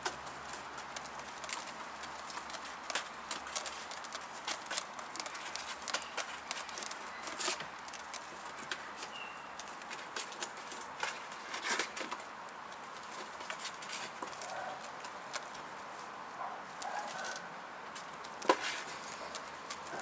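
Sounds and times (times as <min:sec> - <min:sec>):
small paws pattering and scratching: 0:00.0 - 0:20.0.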